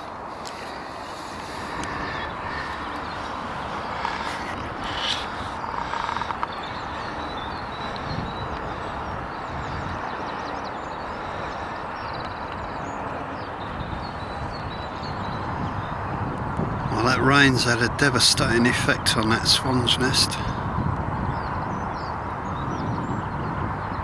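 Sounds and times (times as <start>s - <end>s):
small birds twittering: 0.0s - 24.0s
steady rushing noise: 0.0s - 24.0s.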